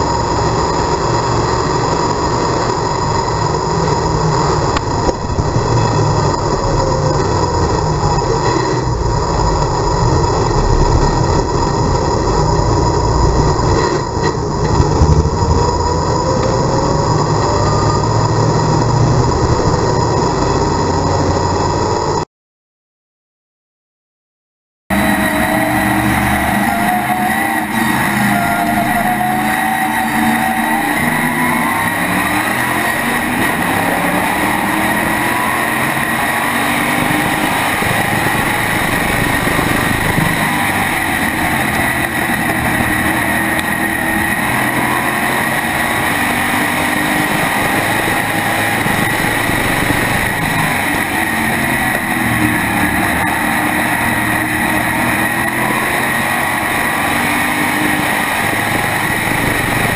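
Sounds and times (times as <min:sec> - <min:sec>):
race car engine running hard: 0:00.0 - 0:22.2, 0:24.9 - 0:59.9.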